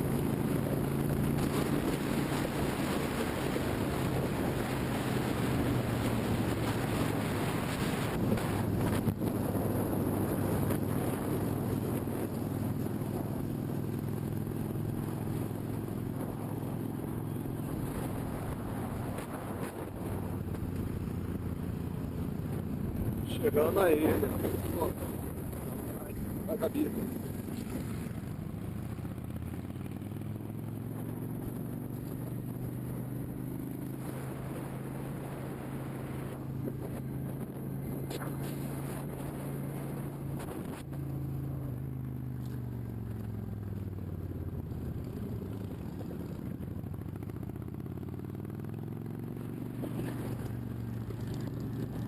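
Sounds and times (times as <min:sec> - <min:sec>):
motorcycle engine running steadily: 0:00.0 - 0:52.0.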